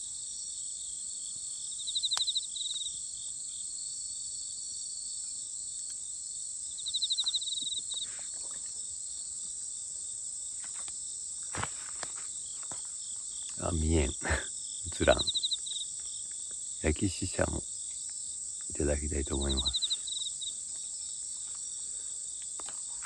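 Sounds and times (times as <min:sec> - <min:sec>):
crickets ringing chorus: 0:00.0 - 0:23.0
nearby cricket trilling: 0:00.0 - 0:23.0.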